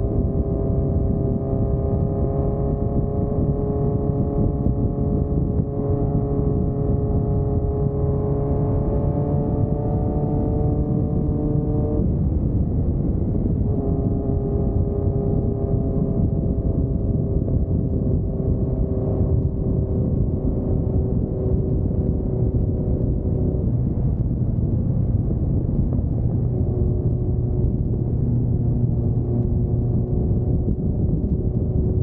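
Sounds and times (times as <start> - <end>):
motorcycle engine cruising: 0.0 - 32.0
road and wind rumble: 0.0 - 32.0.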